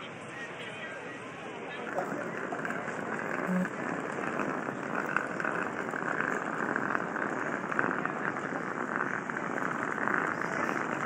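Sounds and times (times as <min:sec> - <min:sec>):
crowd walking: 0:00.0 - 0:11.0.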